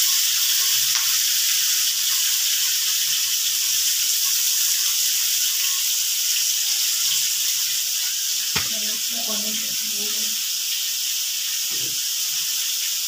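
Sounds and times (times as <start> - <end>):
stir-fry sizzling in a wok: 0.0 - 13.0.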